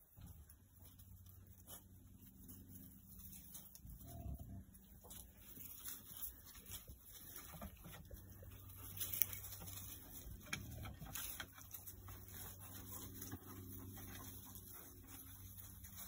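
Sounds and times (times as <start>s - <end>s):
piglets rustling in dry leaves: 0.0s - 16.0s.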